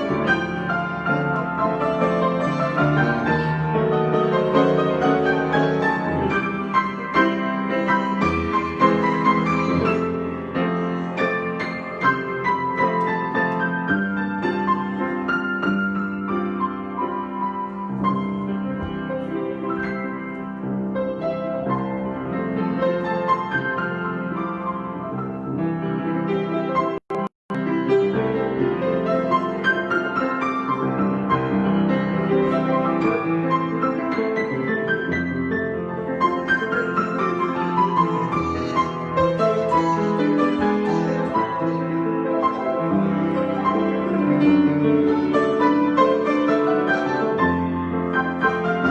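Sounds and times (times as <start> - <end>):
piano improvisation: 0.0 - 48.9.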